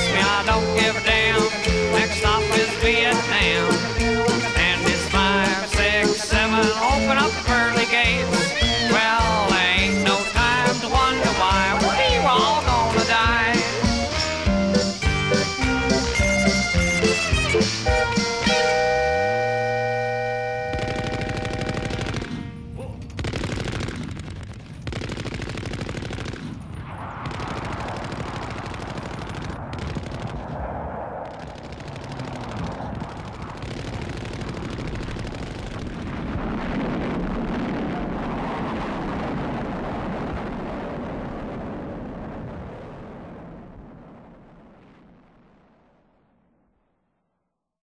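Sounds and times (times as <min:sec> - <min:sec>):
machine-gun fire: 0:00.0 - 0:18.7, 0:20.5 - 0:40.4.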